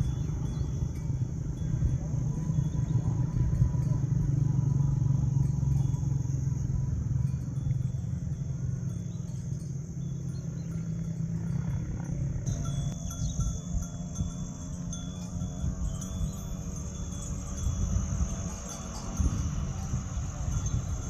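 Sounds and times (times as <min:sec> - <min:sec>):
insects chirring: 0:00.0 - 0:21.0
steady low rumble: 0:00.0 - 0:21.0.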